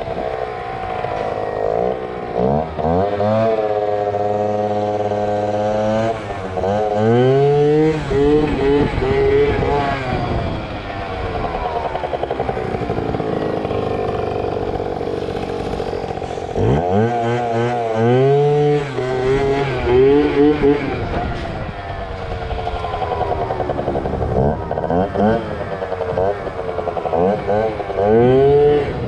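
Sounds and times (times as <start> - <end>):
scooter engine revving: 0.0 - 29.0.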